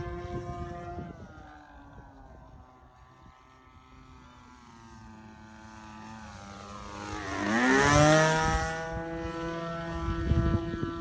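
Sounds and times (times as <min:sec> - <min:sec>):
model plane engine passing: 0:00.0 - 0:11.0.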